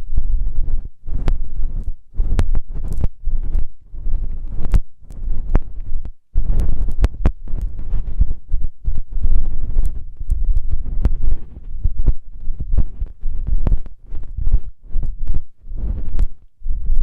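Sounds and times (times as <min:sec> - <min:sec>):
rubbing on a microphone: 0:00.0 - 0:17.0
sharp crackling clicks: 0:01.2 - 0:03.7, 0:04.6 - 0:16.5.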